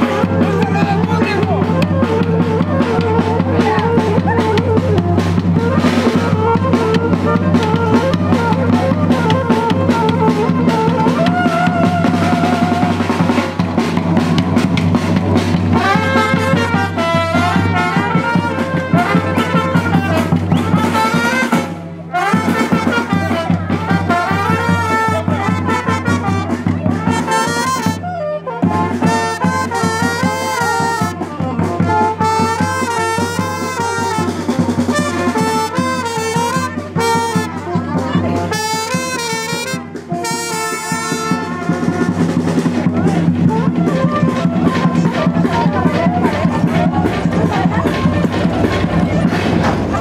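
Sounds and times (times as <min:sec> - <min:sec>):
brass band dance music: 0:00.0 - 0:50.0.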